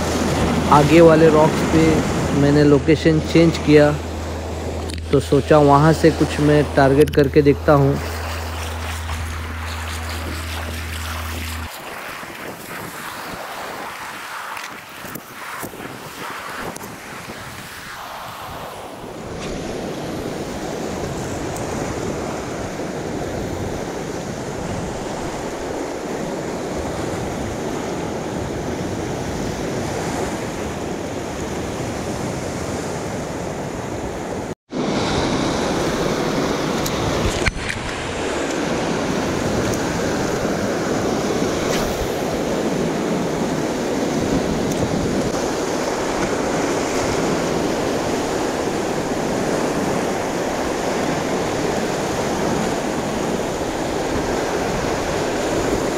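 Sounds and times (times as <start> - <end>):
surf washing against rocks: 0.0 - 33.8, 34.7 - 55.9
wind: 0.0 - 55.9.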